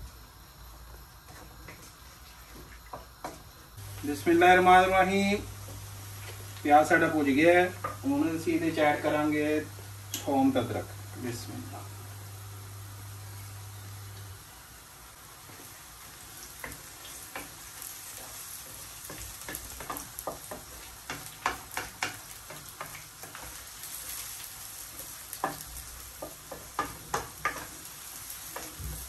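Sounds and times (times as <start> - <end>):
onions sizzling in hot oil: 0.0 - 29.0.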